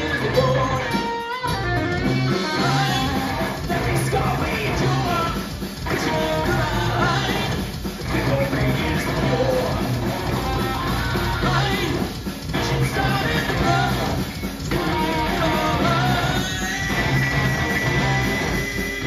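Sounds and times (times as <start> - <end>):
live hard rock band: 0.0 - 19.0.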